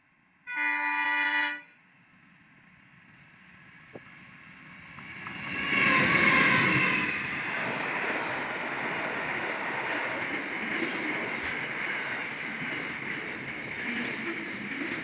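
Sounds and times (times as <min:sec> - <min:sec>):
diesel locomotives passing: 0:00.4 - 0:15.0.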